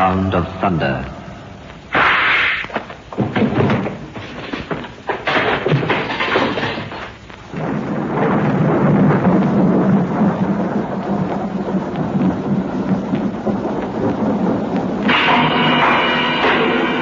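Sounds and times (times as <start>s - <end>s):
rolling thunder rumble: 0.0s - 17.0s
thunder crack: 0.0s - 17.0s.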